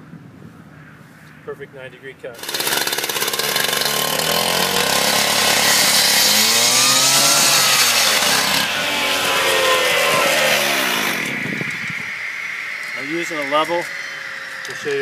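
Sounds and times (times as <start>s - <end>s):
cut-off saw engine running: 2.4s - 15.0s
loud hiss of cutting: 2.4s - 15.0s.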